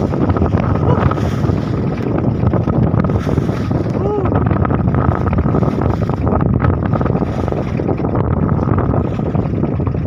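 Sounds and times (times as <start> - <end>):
rumble of boat and water: 0.0 - 10.0
wind buffeting microphone: 0.0 - 10.0.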